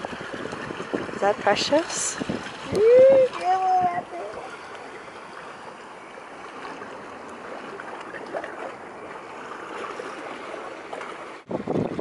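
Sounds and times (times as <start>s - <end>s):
waves washing against rocks: 0.0s - 12.0s.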